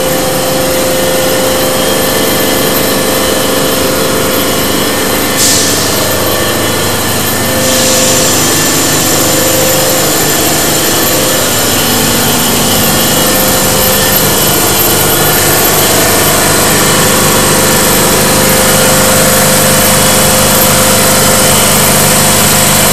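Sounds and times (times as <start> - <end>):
compressor running loudly: 0.0 - 22.9
thin high whine: 0.0 - 22.9.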